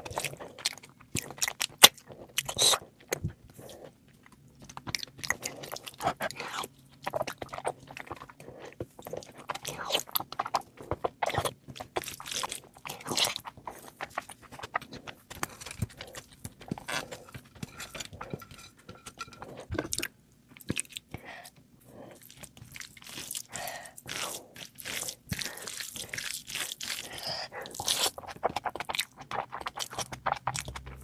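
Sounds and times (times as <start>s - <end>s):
person chewing and crunching: 0.0s - 31.0s.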